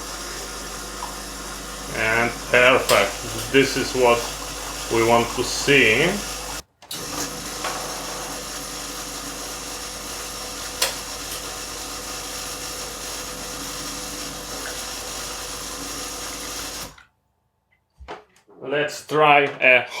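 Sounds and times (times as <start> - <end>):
pump humming: 0.0 - 17.0.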